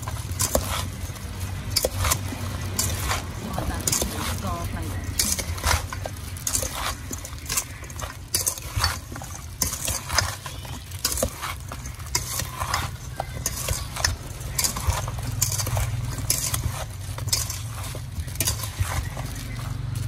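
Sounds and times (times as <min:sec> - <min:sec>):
wet fruit tossed in metal bowl: 0:00.0 - 0:20.0.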